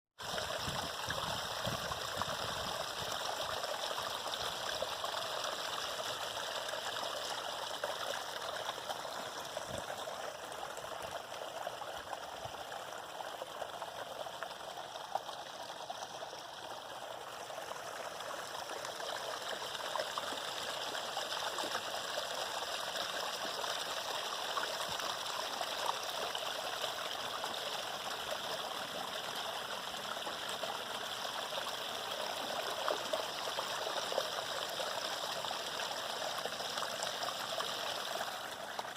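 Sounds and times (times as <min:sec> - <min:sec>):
stream water trickling: 0:00.2 - 0:38.9.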